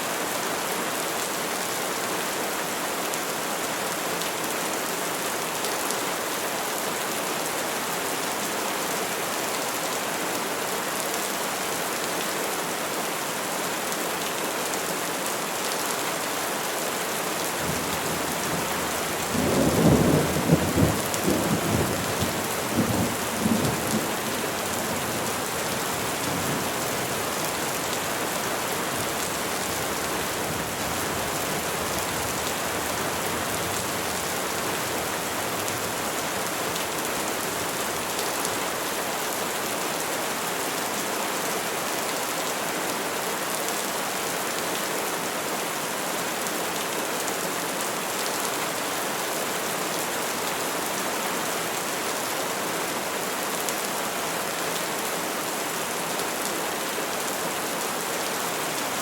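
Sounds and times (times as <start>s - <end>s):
rain falling on trees: 0.0s - 59.0s.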